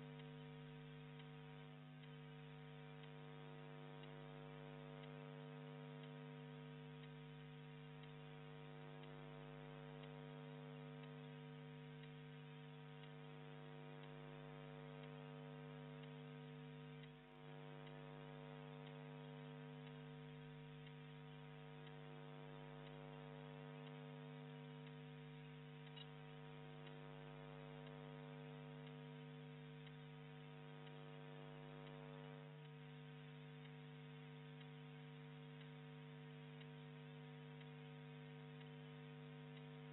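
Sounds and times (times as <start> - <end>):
faint mains hum: 0.0 - 39.9.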